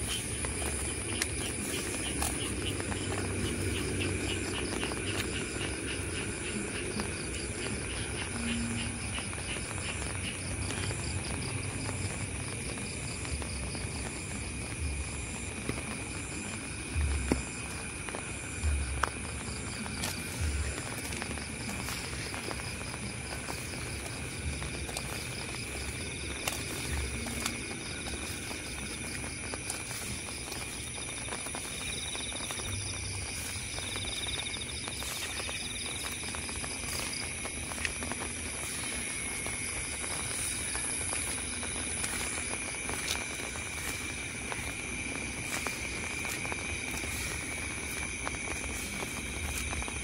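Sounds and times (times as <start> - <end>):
night insects trilling: 0.0 - 50.0
steady rainfall hissing: 0.0 - 50.0.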